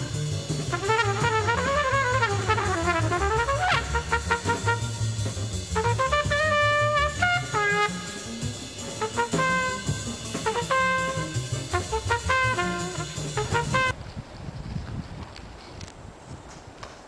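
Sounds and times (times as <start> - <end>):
jazzy brass and drums music: 0.0 - 14.0.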